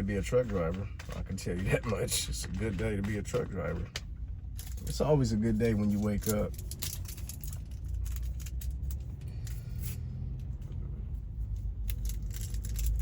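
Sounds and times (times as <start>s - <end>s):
light clicks and rattles: 0.0s - 13.0s
truck engine rumble: 0.0s - 13.0s.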